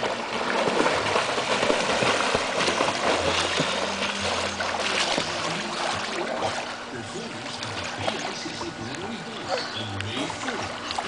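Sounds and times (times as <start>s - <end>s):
swimmers splashing in pool water: 0.0s - 11.0s.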